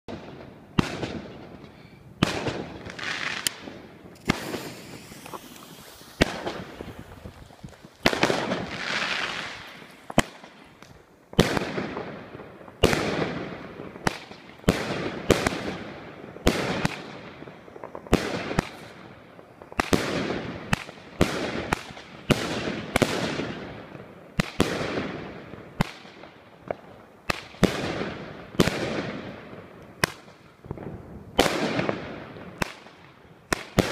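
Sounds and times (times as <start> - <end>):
fireworks bangs with echo: 0.1 - 33.9.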